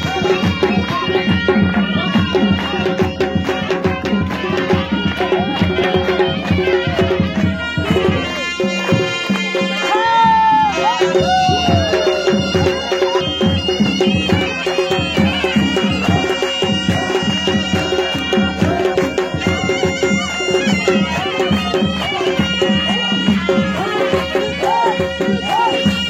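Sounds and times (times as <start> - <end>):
fast steady drumming: 0.0 - 26.0
shrill reed wind instrument: 0.0 - 26.0.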